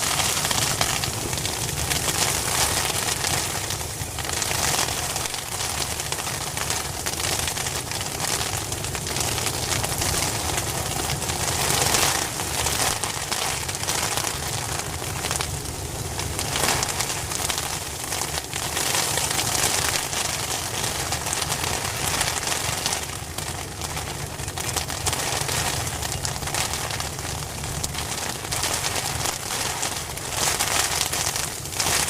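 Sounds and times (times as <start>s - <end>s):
hail pattering on an umbrella: 0.0s - 32.0s.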